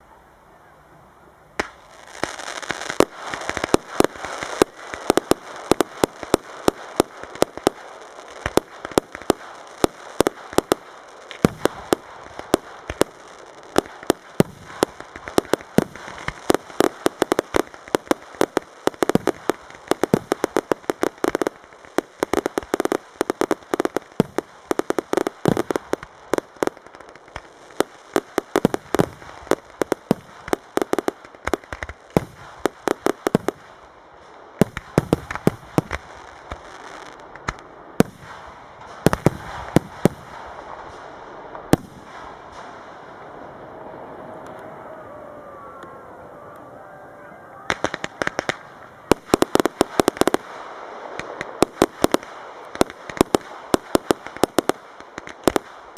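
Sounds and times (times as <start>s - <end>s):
crackling hiss: 0.0s - 55.9s
fireworks bangs and crackles: 1.6s - 44.7s, 47.5s - 55.9s.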